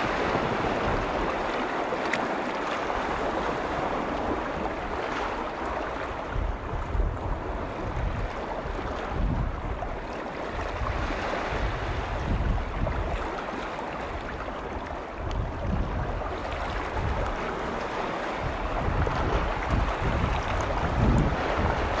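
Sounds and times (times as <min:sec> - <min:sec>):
waves washing against shore: 0:00.0 - 0:22.0
wind buffeting microphone: 0:00.0 - 0:22.0.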